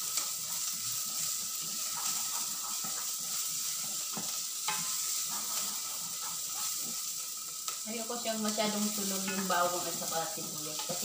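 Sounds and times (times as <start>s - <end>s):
garlic and onion sizzling in oil: 0.0s - 11.0s.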